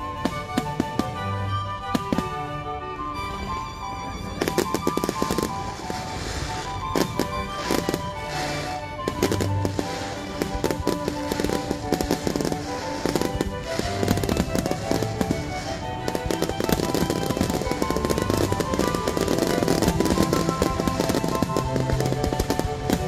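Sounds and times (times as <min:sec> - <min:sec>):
fireworks bangs and crackling: 0:00.0 - 0:23.0
music playing: 0:00.0 - 0:23.0.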